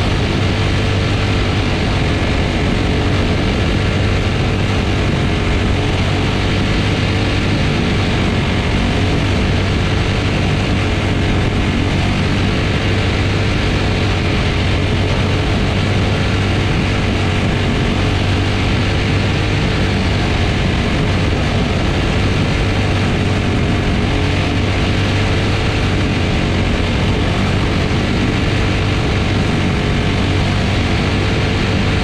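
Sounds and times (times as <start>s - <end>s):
race car engine running: 0.0s - 32.0s.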